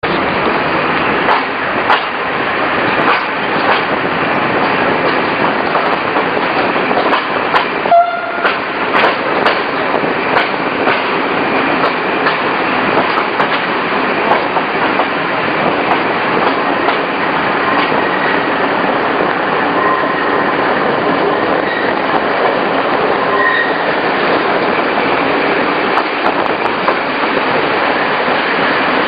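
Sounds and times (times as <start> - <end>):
train rumbling on rails: 0.0 - 29.0.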